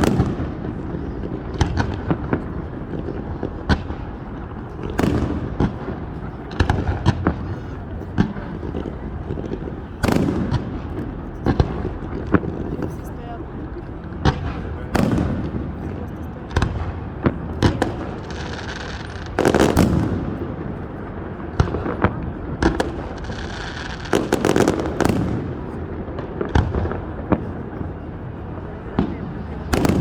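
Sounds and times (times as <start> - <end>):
fireworks banging: 0.0 - 30.0
fireworks crackling: 0.0 - 30.0.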